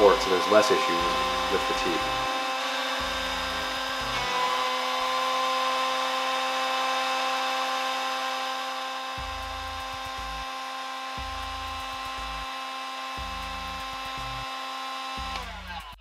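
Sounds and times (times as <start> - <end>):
heat gun fan whining: 0.0 - 16.0.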